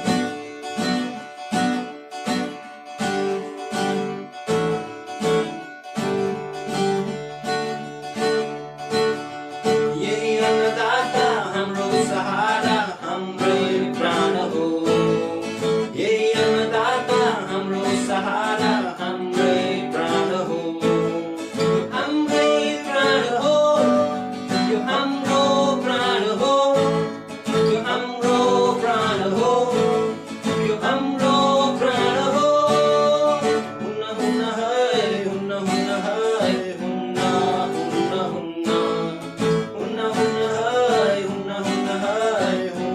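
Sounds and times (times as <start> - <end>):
strummed acoustic guitar: 0.0 - 42.9.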